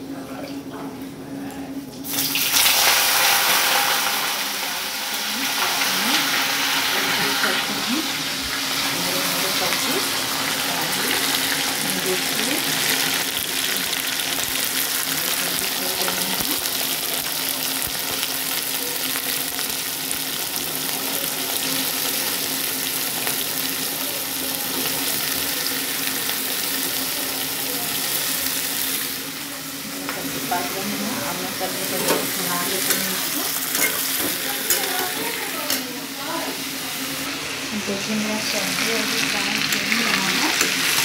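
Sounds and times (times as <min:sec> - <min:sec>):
vegetables sizzling in hot oil: 0:02.0 - 0:41.0.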